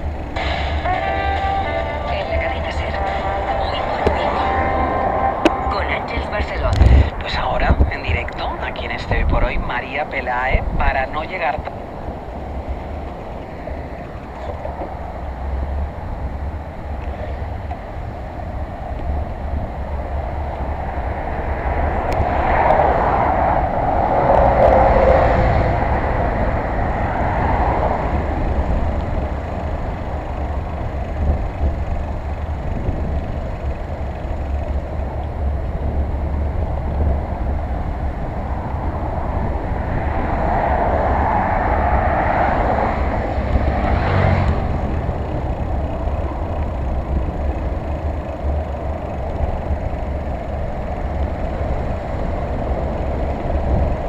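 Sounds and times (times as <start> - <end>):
vehicles passing: 0.0 - 54.0
wind buffeting microphone: 2.4 - 54.0.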